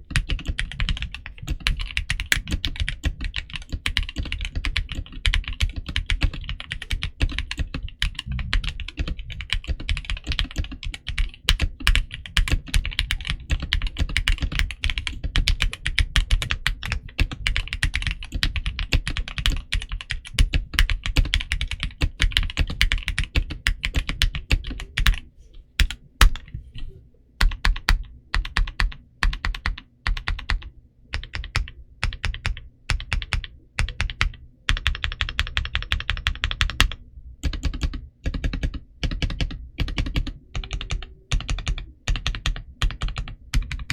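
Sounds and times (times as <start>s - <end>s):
mechanical keyboard typing: 0.0s - 25.2s, 25.8s - 26.5s, 27.4s - 43.9s.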